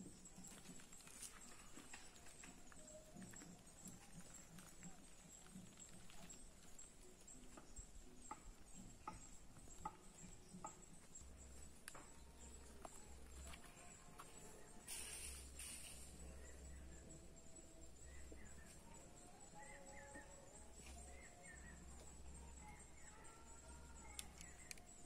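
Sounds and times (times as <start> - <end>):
faint forest ambience: 0.0 - 25.0.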